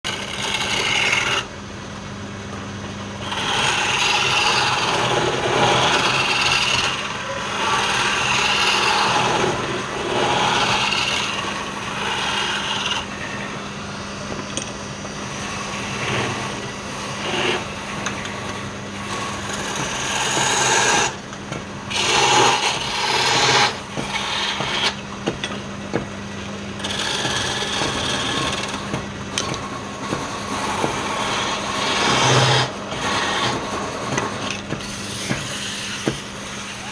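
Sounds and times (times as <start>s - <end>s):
tool scraping spinning wood: 0.0s - 1.5s, 3.2s - 13.6s, 15.3s - 21.2s, 21.9s - 25.0s, 26.8s - 36.9s
lathe motor humming: 0.1s - 1.6s, 3.1s - 25.1s, 26.7s - 36.9s.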